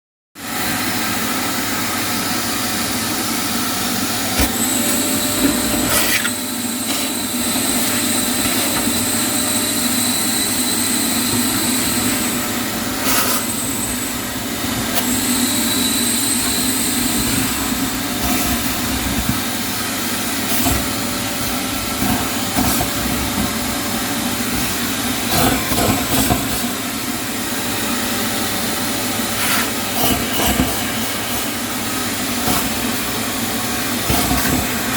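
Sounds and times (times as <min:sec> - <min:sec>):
machine running with hiss: 0:00.4 - 0:34.9.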